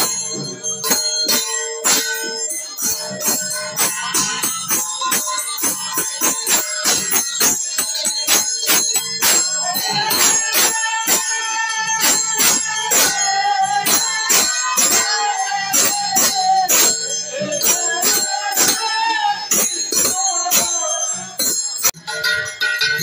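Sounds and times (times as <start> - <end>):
person singing: 0.0 - 22.0
hand cymbals ringing: 0.0 - 23.0.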